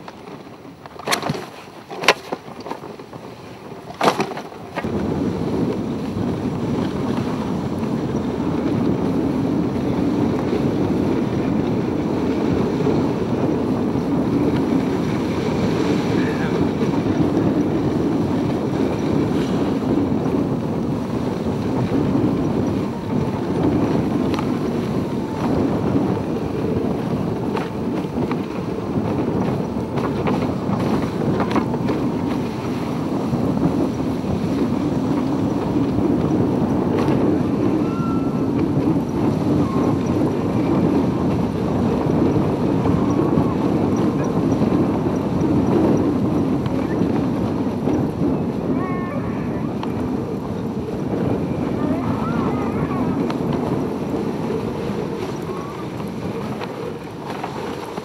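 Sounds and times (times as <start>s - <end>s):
wind buffeting microphone: 0.0s - 58.0s
sled runners hissing on snow: 4.8s - 37.8s, 38.5s - 58.0s.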